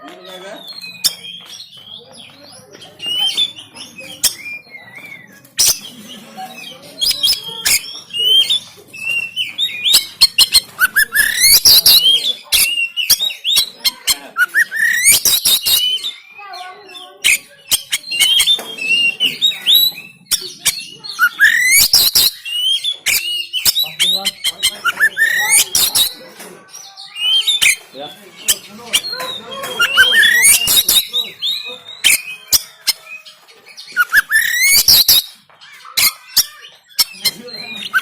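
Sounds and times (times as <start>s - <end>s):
bird singing varied song: 0.0s - 38.0s.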